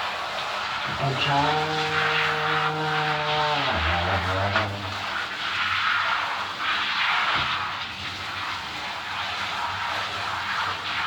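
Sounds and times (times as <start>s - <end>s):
water spraying: 0.0s - 11.0s.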